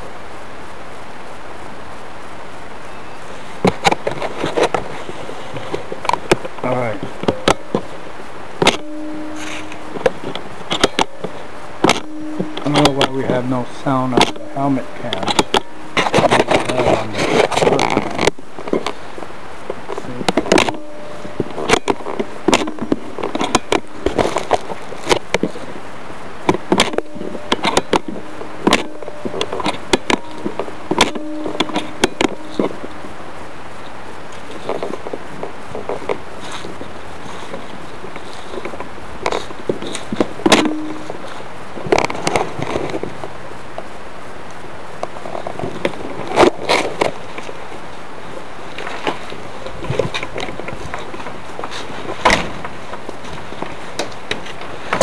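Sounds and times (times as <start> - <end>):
low buzz: 0.0 - 55.0
steady hiss: 0.0 - 55.0.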